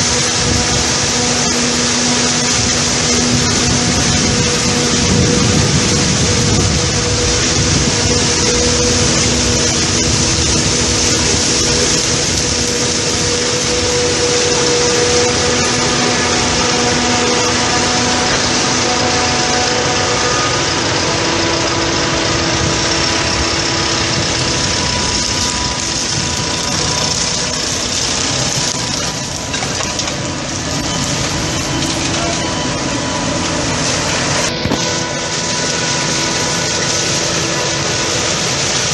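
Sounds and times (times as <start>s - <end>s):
farm machinery diesel engines: 0.0s - 38.9s
strong hiss: 0.0s - 38.9s.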